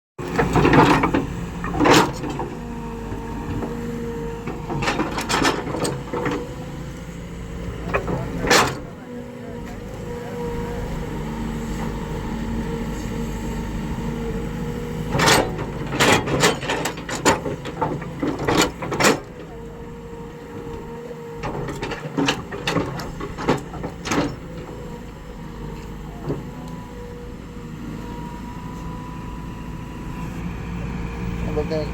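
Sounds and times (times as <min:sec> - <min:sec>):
excavator diesel engine rumbling: 0:00.2 - 0:31.9
excavator working on rock: 0:00.2 - 0:31.9.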